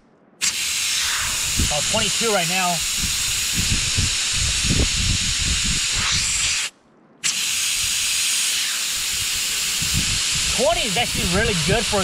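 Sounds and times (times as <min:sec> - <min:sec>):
air hissing from tire valve: 0:00.4 - 0:12.0.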